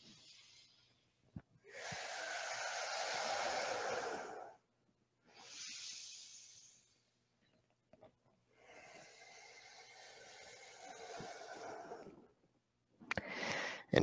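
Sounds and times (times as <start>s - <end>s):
man breathing deeply: 0.0s - 4.6s, 5.2s - 7.2s, 8.5s - 12.4s, 13.1s - 13.9s.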